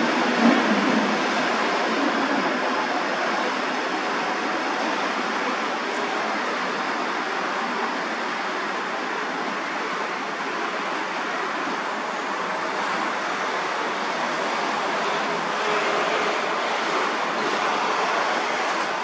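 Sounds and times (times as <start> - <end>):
train moving away: 0.0 - 19.0.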